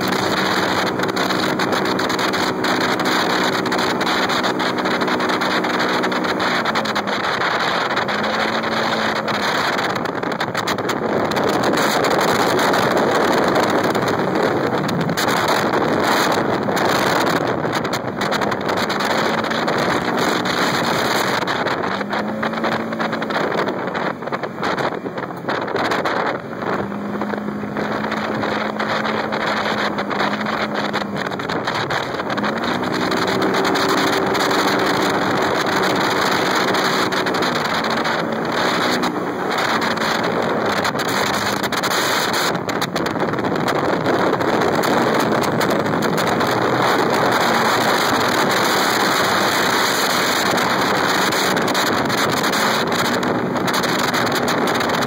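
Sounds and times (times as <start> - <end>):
engine running under load: 0.0 - 55.0
wind noise on microphone: 0.0 - 55.0.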